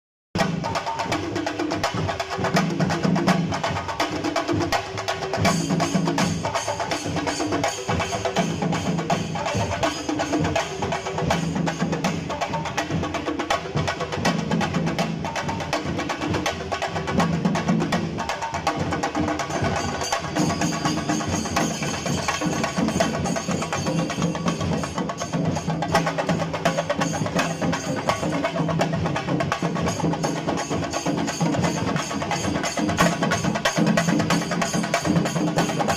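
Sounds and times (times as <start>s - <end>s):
drums in fast dense rhythm: 0.3s - 35.9s
cymbals: 4.5s - 13.1s, 13.7s - 35.9s.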